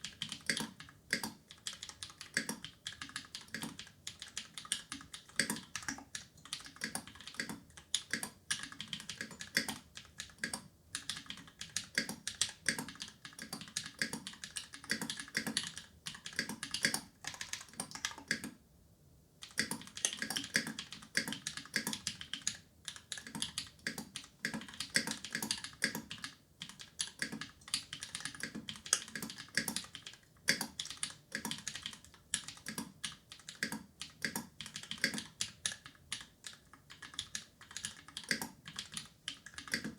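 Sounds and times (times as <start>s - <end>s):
fast typing on mechanical keyboard: 0.0s - 18.5s, 19.4s - 39.9s.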